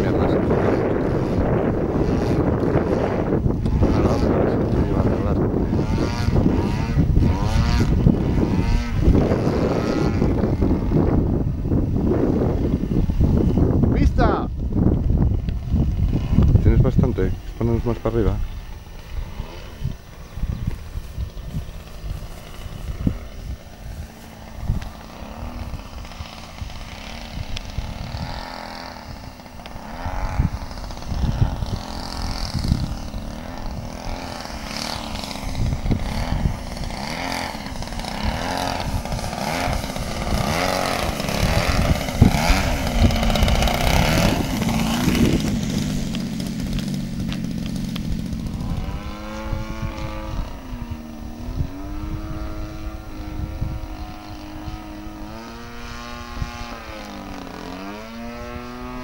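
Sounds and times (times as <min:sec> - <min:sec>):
model airplane engine and propeller: 0:00.0 - 0:59.0.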